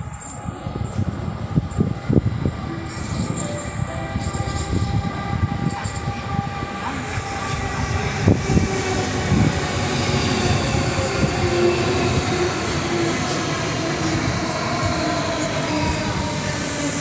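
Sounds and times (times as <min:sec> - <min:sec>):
train rumble and motor whine: 0:00.0 - 0:17.0.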